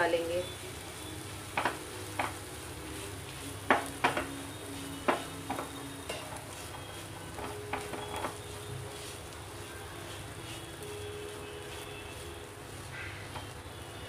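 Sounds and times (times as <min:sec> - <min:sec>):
soft sizzle: 0:00.0 - 0:14.0.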